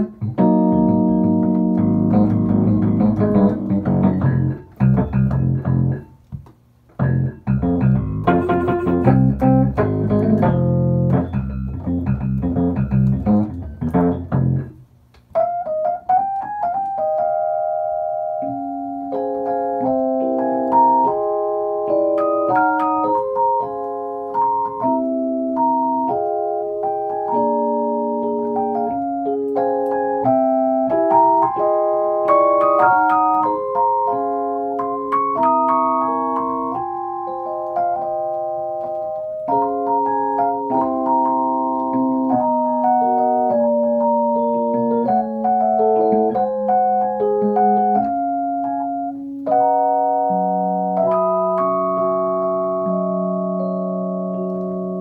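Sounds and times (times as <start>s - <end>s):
electric piano playing chords: 0.0s - 55.0s.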